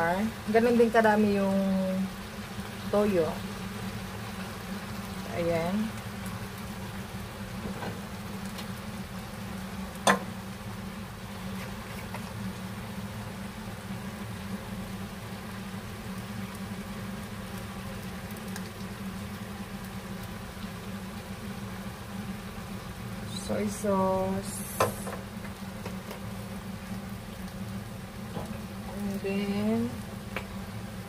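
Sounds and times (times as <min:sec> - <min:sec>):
low kitchen hum: 0:00.0 - 0:31.0.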